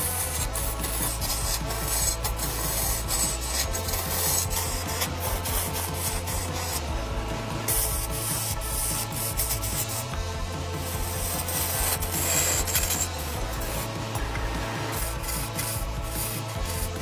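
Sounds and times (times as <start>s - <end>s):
lathe tool scraping wood: 0.0s - 17.0s.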